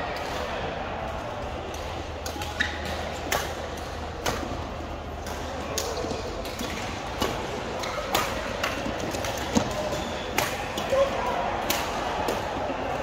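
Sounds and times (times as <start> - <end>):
hubbub of busy hall: 0.0 - 13.0.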